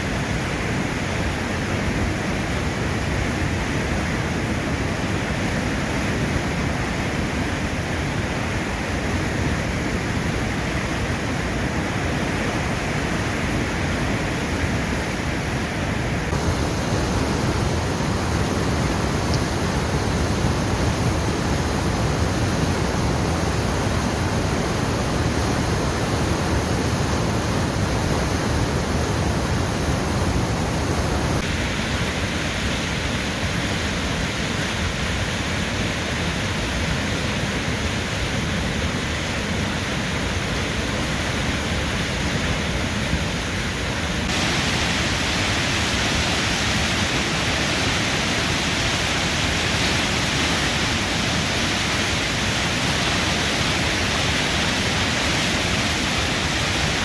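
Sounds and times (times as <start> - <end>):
water rushing over waterfall: 0.0 - 57.0.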